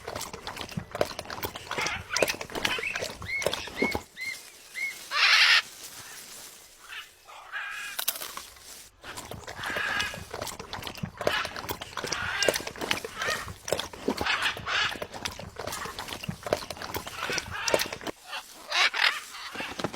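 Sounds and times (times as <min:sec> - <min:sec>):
lovebirds chattering and chirping: 0:00.0 - 0:08.0, 0:09.1 - 0:19.6.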